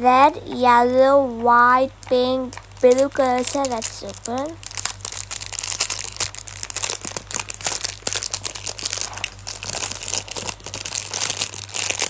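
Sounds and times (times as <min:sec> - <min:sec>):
plastic packet crinkling: 0:01.8 - 0:12.0.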